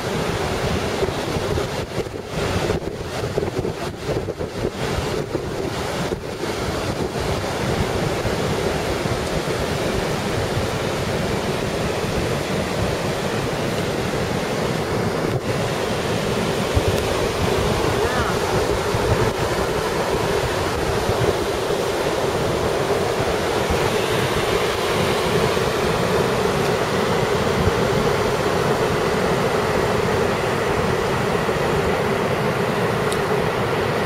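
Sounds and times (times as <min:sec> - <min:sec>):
surf washing onto a beach: 0:00.0 - 0:34.0
wind buffeting microphone: 0:00.0 - 0:34.0.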